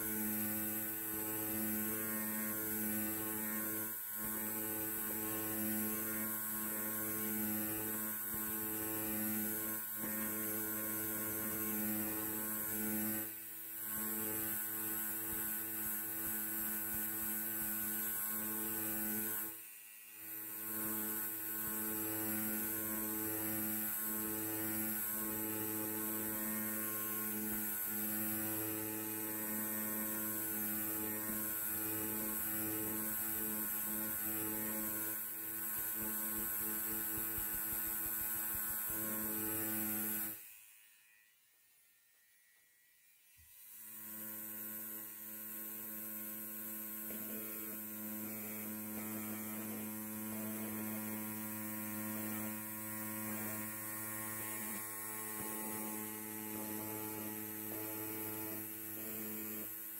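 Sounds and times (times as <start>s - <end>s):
electric hair clipper buzzing: 0.0s - 59.9s.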